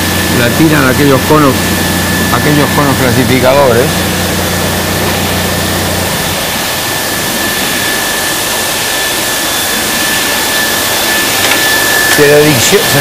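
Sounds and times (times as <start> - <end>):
high machine whine: 0.0 - 13.0
low machine hum: 0.0 - 13.0
machinery rushing noise: 0.0 - 13.0.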